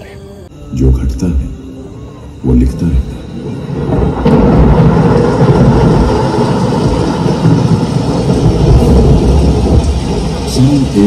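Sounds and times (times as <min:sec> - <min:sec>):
thunder rumbling: 0:01.8 - 0:11.0.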